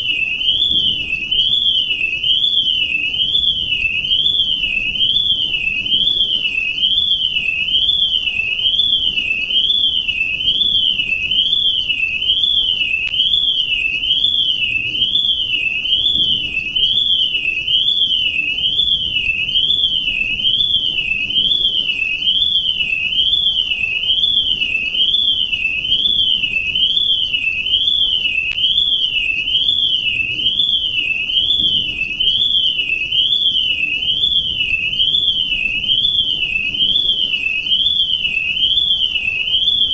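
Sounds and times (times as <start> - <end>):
warbling electronic alarm: 0.0 - 39.9.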